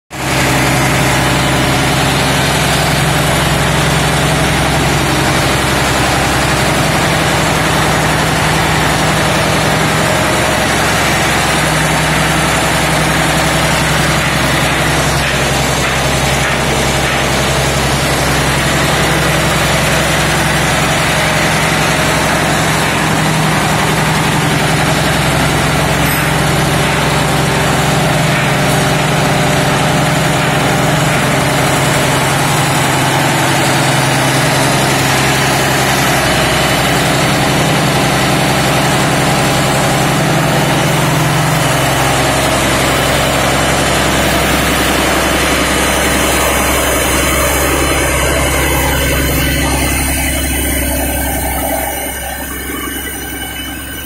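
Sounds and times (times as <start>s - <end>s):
diesel engine idling: 0.2s - 54.0s.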